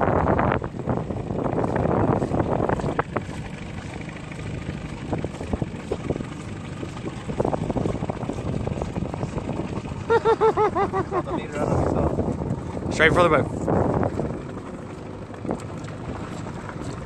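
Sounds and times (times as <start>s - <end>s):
water splashing against boat: 0.0s - 17.0s
wind buffeting microphone: 0.0s - 17.0s.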